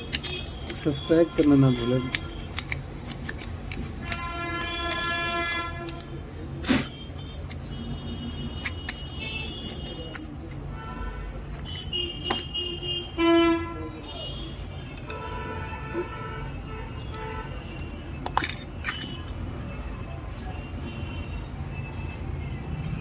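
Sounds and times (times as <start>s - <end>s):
vehicle horns tooting: 0.0s - 2.6s, 4.0s - 19.9s
street traffic noise: 0.0s - 23.0s.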